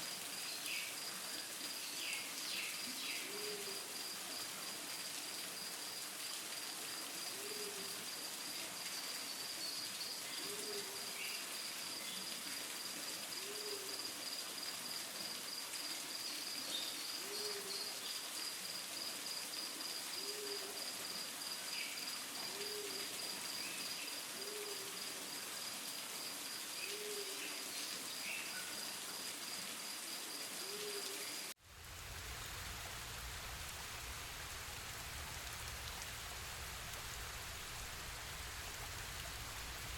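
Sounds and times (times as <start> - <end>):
rushing water or rain: 0.0 - 39.9.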